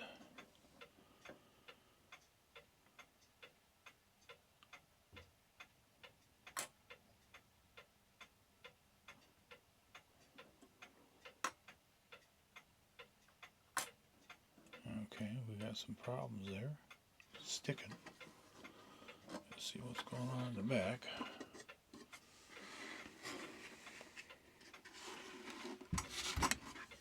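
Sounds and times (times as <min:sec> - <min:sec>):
clock ticking: 0:00.0 - 0:27.0.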